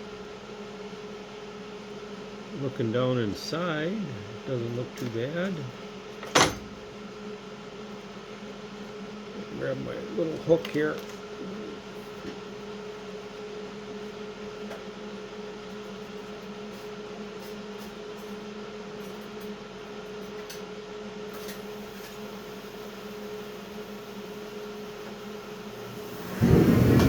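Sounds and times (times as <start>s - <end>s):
heater humming with fan noise: 0.0s - 27.0s.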